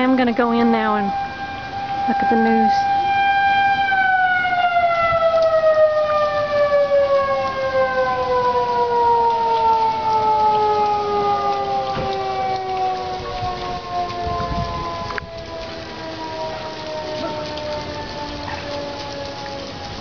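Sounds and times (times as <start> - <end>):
warning siren winding down: 0.0 - 20.0.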